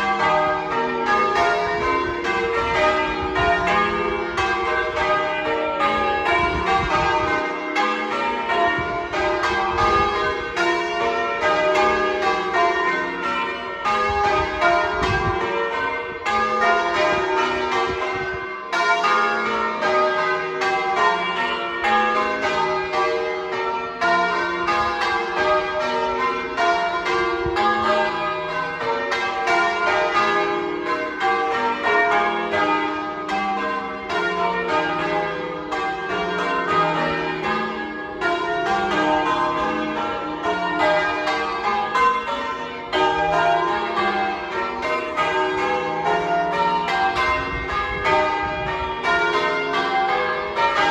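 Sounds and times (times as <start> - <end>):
church bells change ringing: 0.0 - 50.9.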